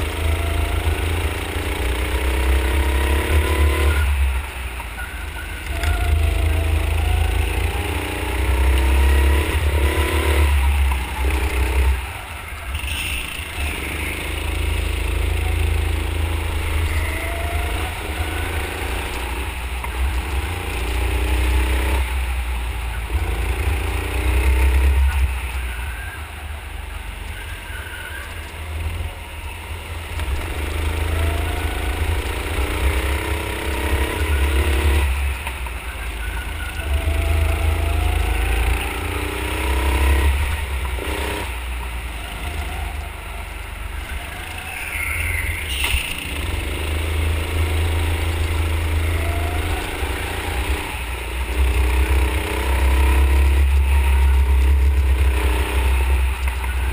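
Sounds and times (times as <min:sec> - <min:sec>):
go-kart engine revving: 0:00.0 - 0:56.9.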